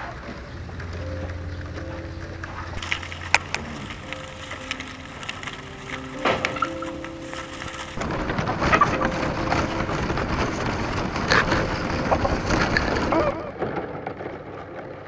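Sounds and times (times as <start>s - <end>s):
bamboo strips rustling and clicking: 0.0s - 15.0s.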